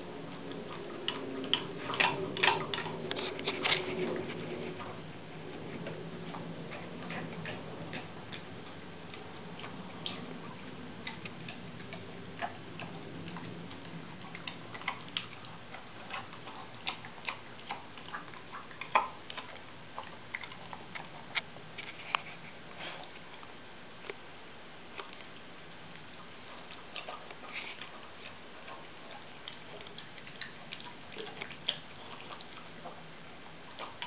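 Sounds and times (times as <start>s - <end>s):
dog crunching kibble: 0.0s - 24.2s, 24.9s - 34.0s.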